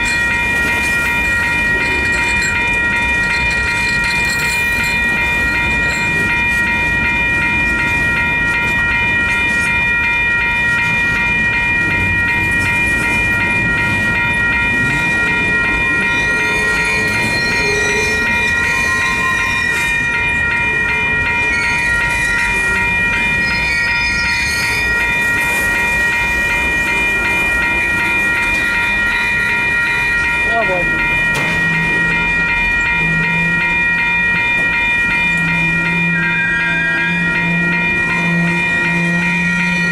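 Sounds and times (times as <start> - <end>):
high ringing tones: 0.0 - 39.9
train wheels rumbling on rails: 0.0 - 39.9.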